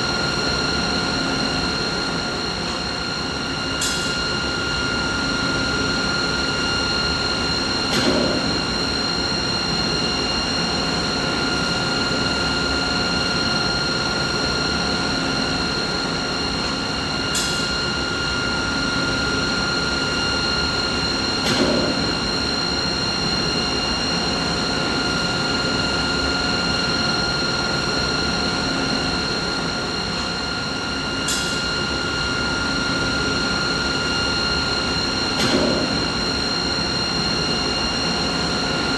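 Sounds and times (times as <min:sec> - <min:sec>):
machinery humming with high whine: 0:00.0 - 0:38.9.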